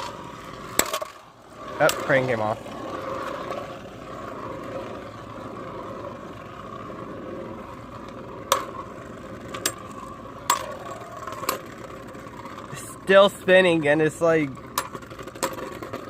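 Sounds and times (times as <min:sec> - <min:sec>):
spinning tops whirring and scraping: 0:00.0 - 0:16.0.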